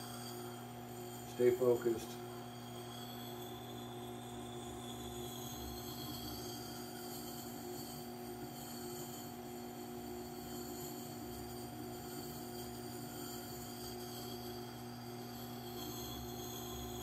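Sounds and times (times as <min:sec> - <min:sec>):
grinder motor hum: 0:00.0 - 0:17.0.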